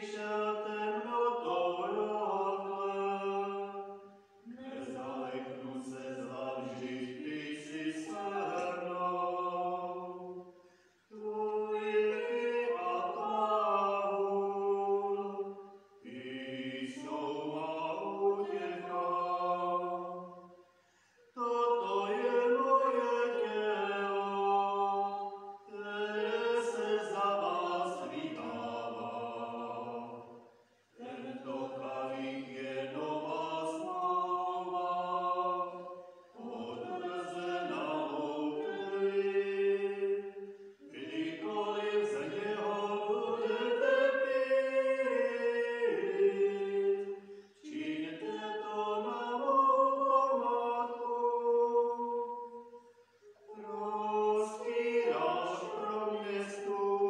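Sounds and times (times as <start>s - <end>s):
liturgical chant singing: 0.0s - 57.0s.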